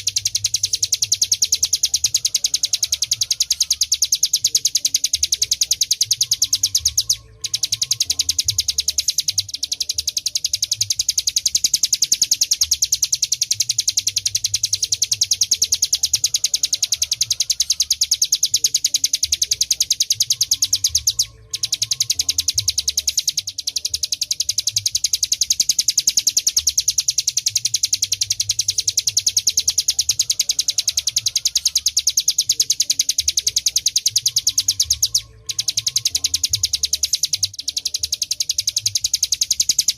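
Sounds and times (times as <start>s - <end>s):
bird singing high-pitched trill: 0.0s - 39.9s.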